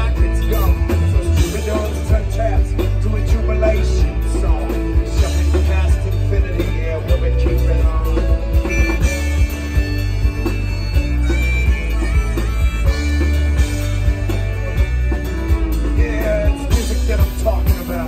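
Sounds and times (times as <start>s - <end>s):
bass line: 0.0s - 18.0s
strummed acoustic guitar: 0.0s - 18.0s.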